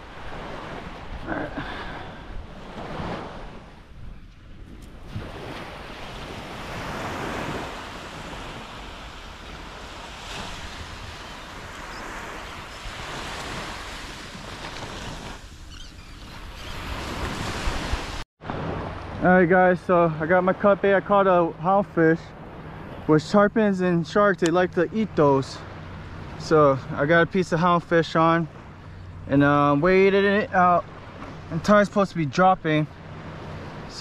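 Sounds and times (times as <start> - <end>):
small waves washing onto beach: 0.0 - 23.4, 24.1 - 34.0.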